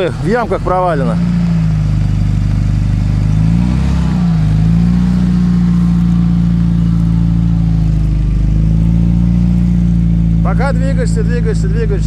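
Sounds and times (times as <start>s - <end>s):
engine revving high: 0.0s - 12.0s
wheels spinning in mud: 0.0s - 12.0s.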